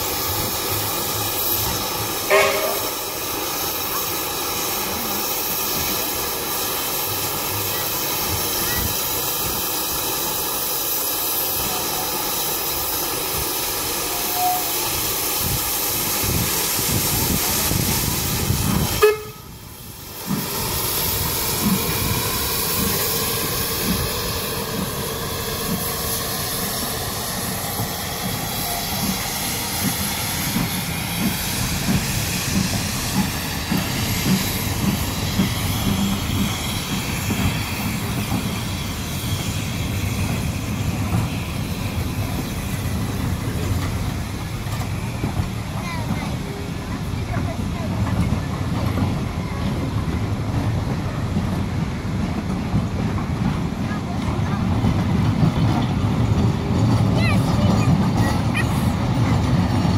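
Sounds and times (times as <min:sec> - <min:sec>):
steam locomotive hissing: 0:00.0 - 0:59.9.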